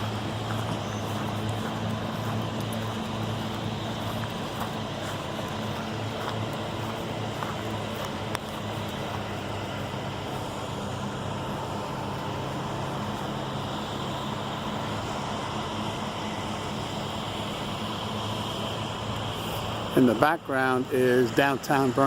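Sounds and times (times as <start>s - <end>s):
distant road traffic: 0.0s - 22.0s
low constant hum: 0.0s - 22.0s.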